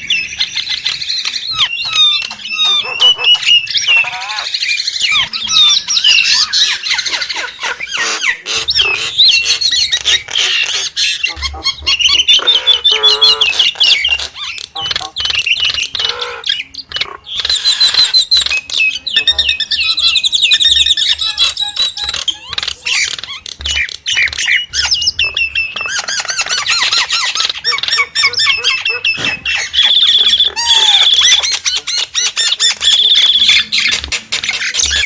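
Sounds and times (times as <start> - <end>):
starling singing: 0.0 - 35.0.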